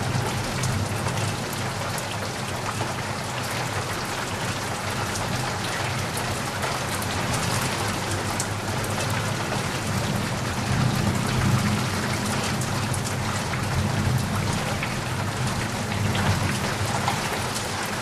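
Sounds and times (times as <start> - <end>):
low rain rumble: 0.0 - 18.0.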